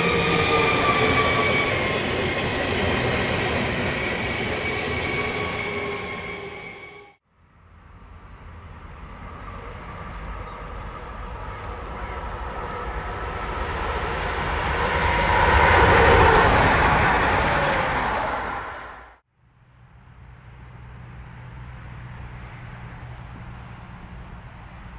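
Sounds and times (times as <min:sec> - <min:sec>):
train passing: 0:00.0 - 0:19.2, 0:19.9 - 0:24.9.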